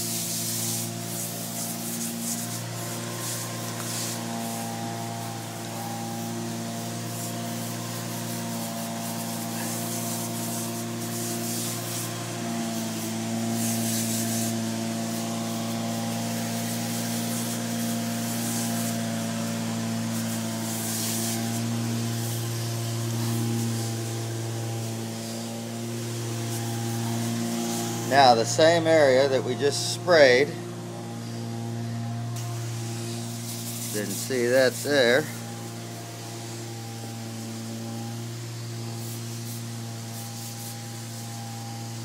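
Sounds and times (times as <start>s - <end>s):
hissing rubbing noise: 0.0s - 42.0s
motor humming: 0.0s - 42.0s.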